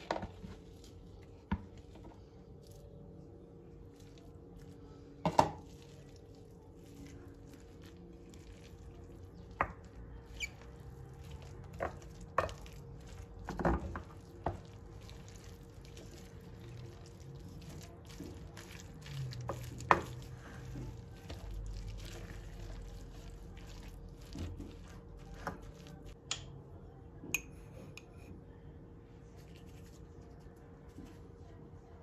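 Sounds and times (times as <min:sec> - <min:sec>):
spoon stirring wet mixture: 0:00.0 - 0:26.6.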